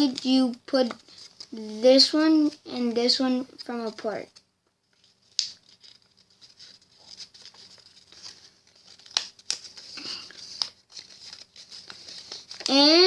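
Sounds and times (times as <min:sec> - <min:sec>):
paper rustling and crinkling: 0:00.0 - 0:02.6, 0:03.8 - 0:13.0.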